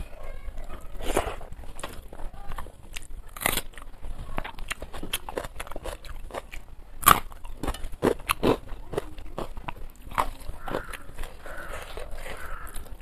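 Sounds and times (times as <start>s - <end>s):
person chewing with mouth smacks: 0.9s - 13.0s.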